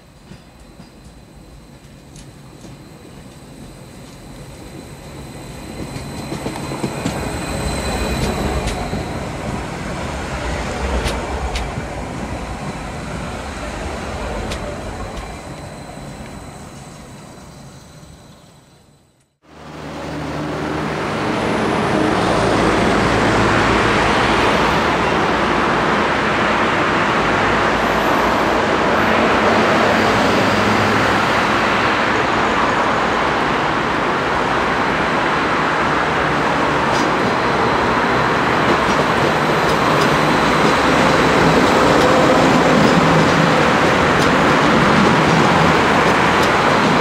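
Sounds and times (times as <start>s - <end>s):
train wheels rushing on rail: 0.0s - 47.0s.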